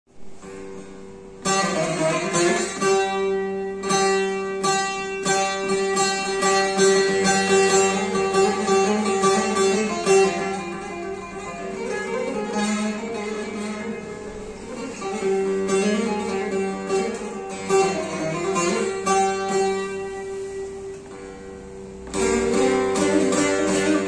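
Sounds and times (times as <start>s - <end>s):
long-necked lute played solo: 0.2s - 24.0s.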